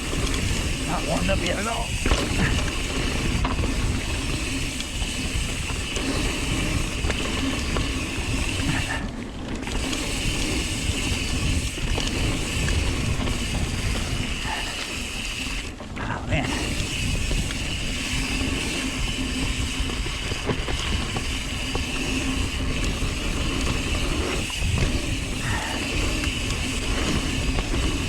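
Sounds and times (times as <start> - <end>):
bicycle tyres rolling on dirt: 0.0 - 28.0
freewheel hub buzzing: 0.0 - 28.0
wind rumble on microphone: 0.0 - 28.0.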